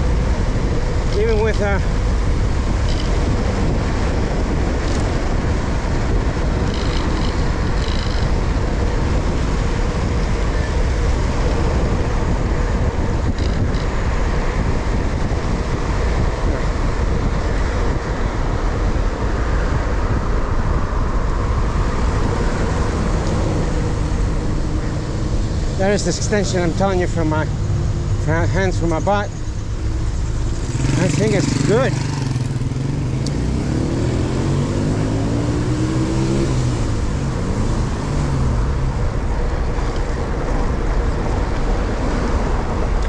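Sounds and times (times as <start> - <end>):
bicycle tyre and road noise: 0.0 - 43.0
wind rushing over microphone: 0.0 - 43.0.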